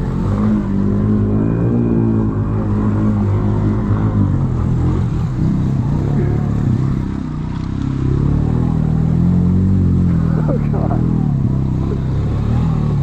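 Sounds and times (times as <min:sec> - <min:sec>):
atv engine running under load: 0:00.0 - 0:13.0.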